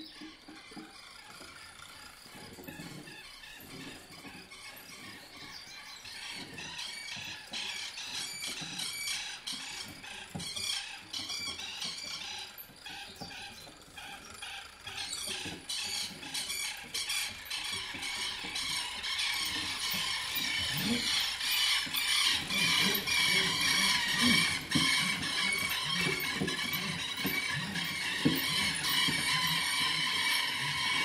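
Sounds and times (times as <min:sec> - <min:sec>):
whirled object clicking and rattling: 0:00.0 - 0:31.0.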